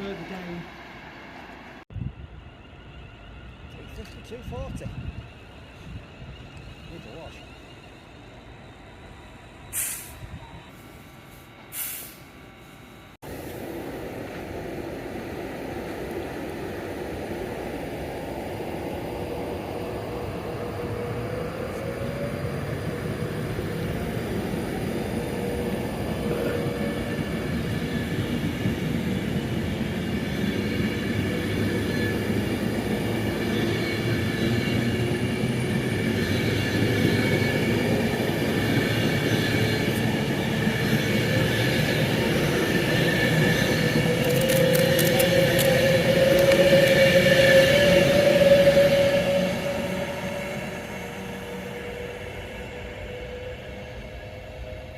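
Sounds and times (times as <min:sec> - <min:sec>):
train approaching: 0:00.0 - 0:54.9
whine of steady tones: 0:00.0 - 0:54.9.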